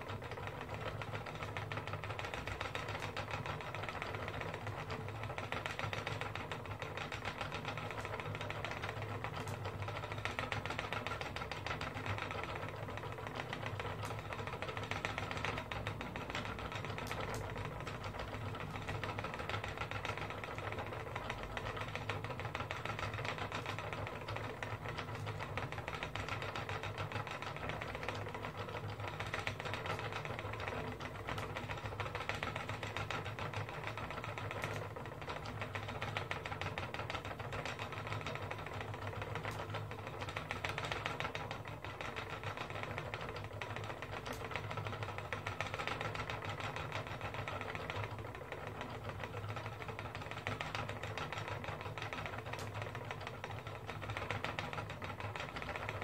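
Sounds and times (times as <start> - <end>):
spinning wheel whirring and ticking: 0.0 - 56.0.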